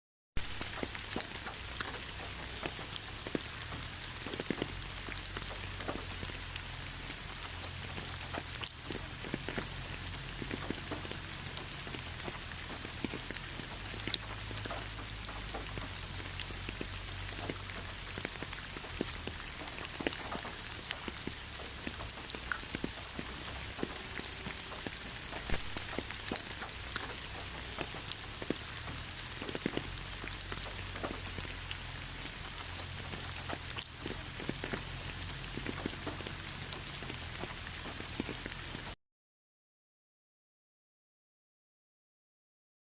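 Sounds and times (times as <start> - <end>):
steady rain: 0.4 - 39.0.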